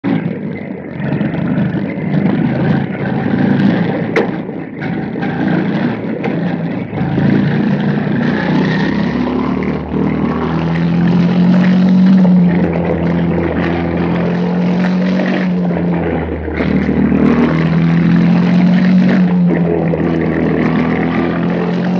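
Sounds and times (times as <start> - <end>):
small race car engines: 0.0 - 21.9.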